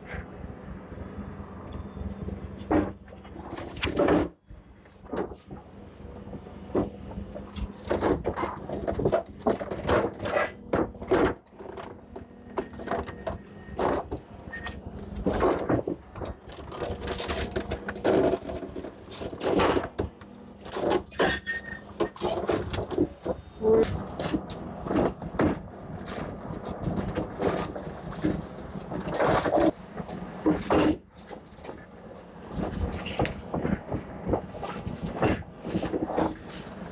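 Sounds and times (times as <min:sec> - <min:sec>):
excavator engine humming: 0:00.0 - 0:36.9
concrete rubble crunching: 0:06.7 - 0:36.9.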